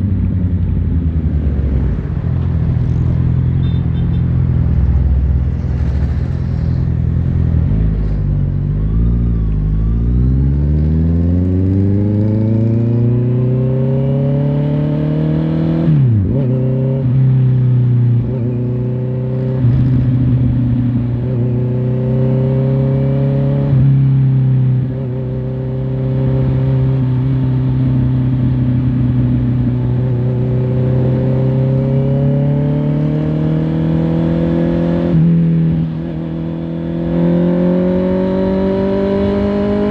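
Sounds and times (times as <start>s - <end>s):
motorcycle engine accelerating: 4.5s - 39.9s.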